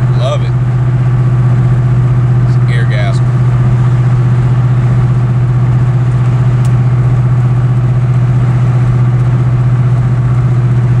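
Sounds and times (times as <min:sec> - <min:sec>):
loud engine idling: 0:00.0 - 0:11.0.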